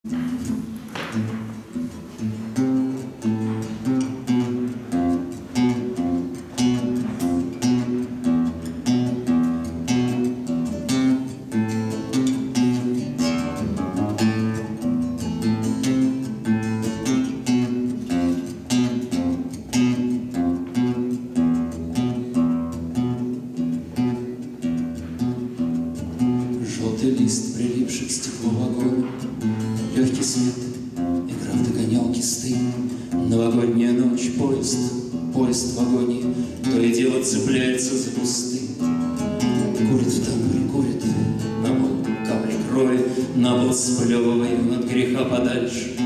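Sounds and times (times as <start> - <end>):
classical guitar playing: 0.0 - 46.0.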